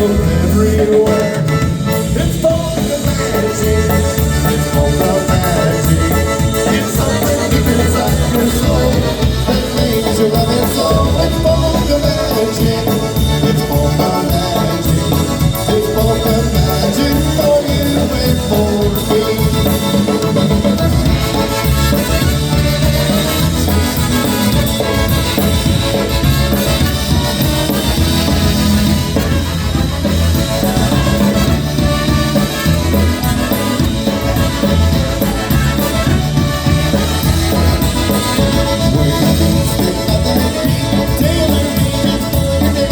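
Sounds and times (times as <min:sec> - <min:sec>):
live polka band playing: 0:00.0 - 0:42.9.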